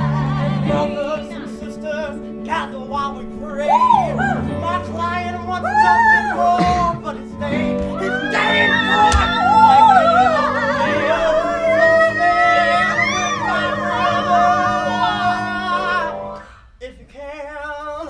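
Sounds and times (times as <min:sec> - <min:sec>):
musical accompaniment: 0:00.0 - 0:16.6
voices singing with vibrato: 0:00.0 - 0:16.6.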